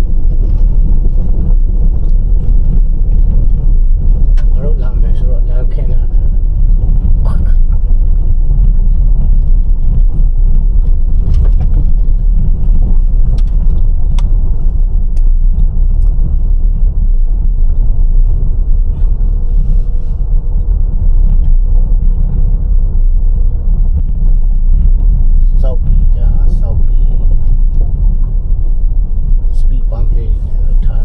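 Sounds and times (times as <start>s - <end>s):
loud low rumble: 0.0s - 31.0s.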